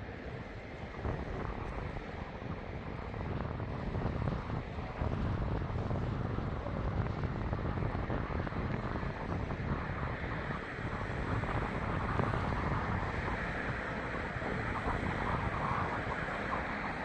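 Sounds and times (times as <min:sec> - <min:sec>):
gusty wind: 0:00.0 - 0:17.0
train rumbling: 0:00.0 - 0:17.0.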